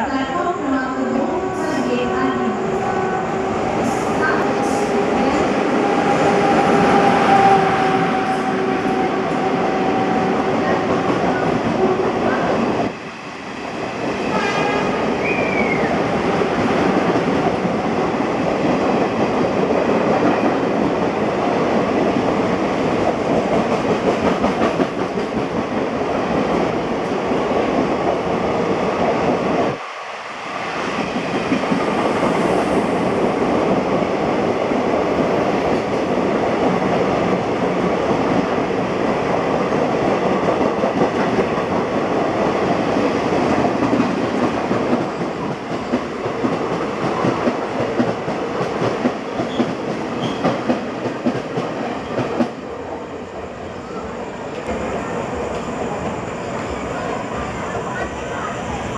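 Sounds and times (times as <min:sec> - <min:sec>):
train passing rumble: 0:00.0 - 0:58.9.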